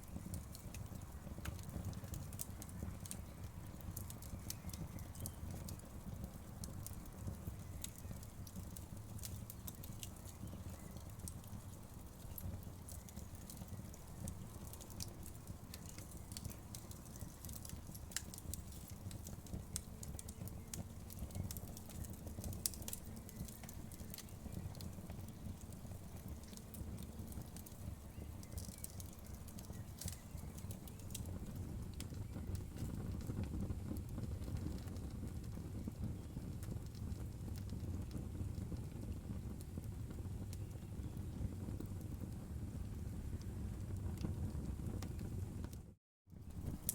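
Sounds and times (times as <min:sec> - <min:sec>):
low rumble of flames: 0:00.0 - 0:46.9
wood crackling and popping: 0:00.0 - 0:46.9.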